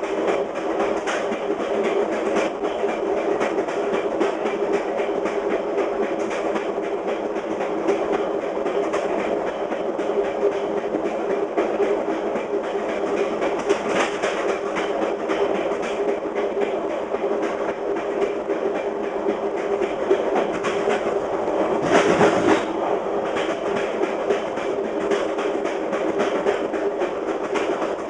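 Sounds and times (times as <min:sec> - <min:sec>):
rumble of train running gear: 0:00.0 - 0:28.0
train wheels clicking over rail joints: 0:00.0 - 0:28.0.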